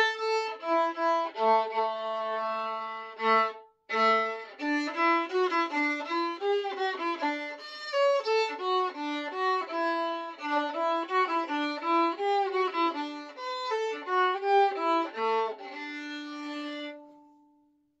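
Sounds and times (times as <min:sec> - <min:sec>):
solo violin playing: 0:00.0 - 0:17.5.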